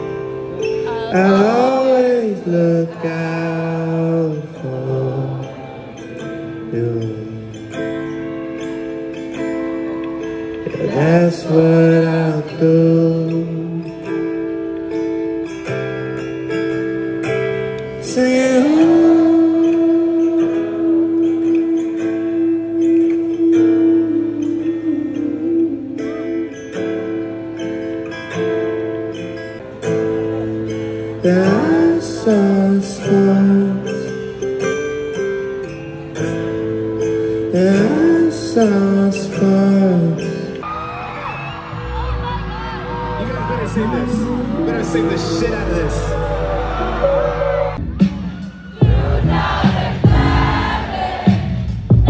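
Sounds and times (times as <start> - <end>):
man singing live: 0.0 - 9.5, 10.2 - 28.4, 29.8 - 40.7, 43.1 - 48.1
guitar chords strummed: 0.0 - 40.6, 42.2 - 52.0
soft musical backing: 0.0 - 52.0.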